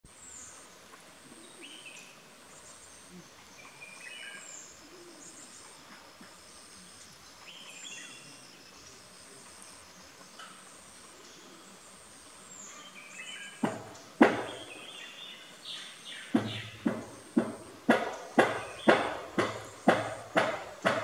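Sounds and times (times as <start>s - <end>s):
birds calling: 0.1s - 21.0s.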